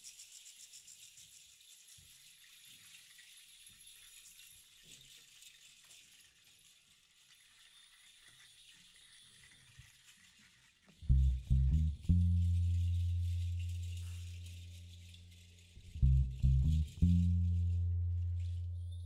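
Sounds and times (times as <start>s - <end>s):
hand percussion shaken softly: 0.0s - 19.0s.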